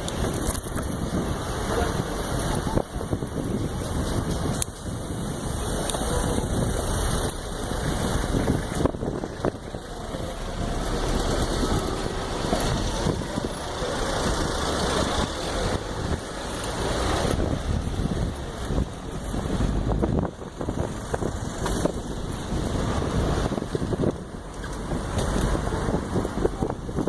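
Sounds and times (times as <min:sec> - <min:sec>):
vehicle engines running: 0:00.0 - 0:27.0
wind rumbling on microphone: 0:00.0 - 0:27.0.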